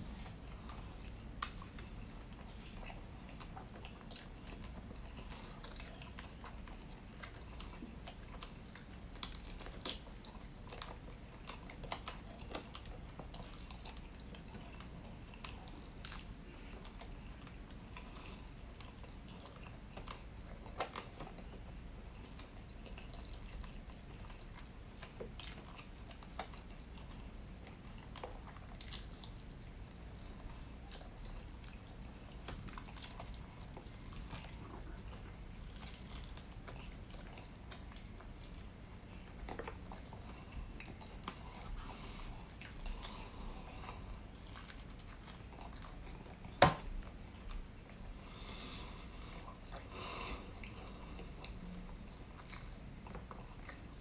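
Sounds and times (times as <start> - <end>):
chewing close to microphone: 0.0 - 54.0.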